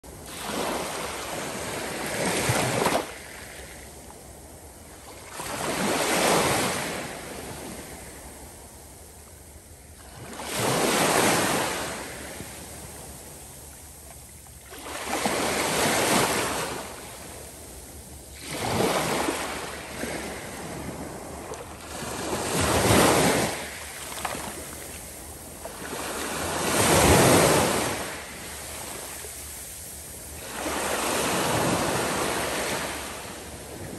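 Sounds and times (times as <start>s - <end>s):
small waves washing over sand: 0.2s - 8.8s, 10.0s - 33.9s.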